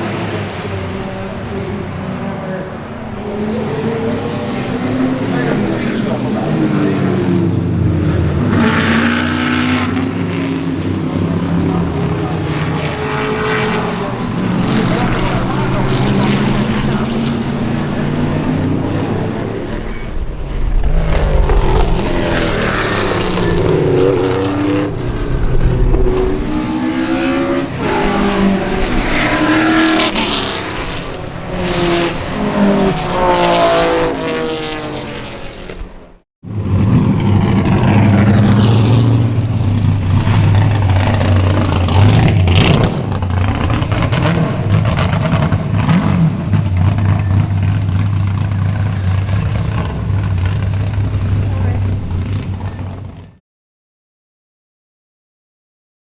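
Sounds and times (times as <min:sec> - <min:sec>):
race car engine at full throttle: 0:00.0 - 0:53.4.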